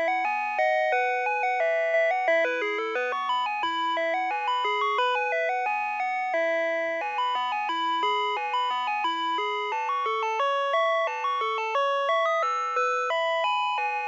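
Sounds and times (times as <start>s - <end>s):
ice cream truck chime melody: 0.0s - 14.0s.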